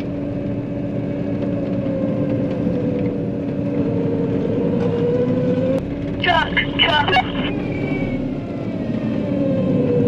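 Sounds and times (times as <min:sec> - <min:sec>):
combine harvester engine droning: 0:00.0 - 0:10.0
drivetrain whine: 0:00.0 - 0:10.0.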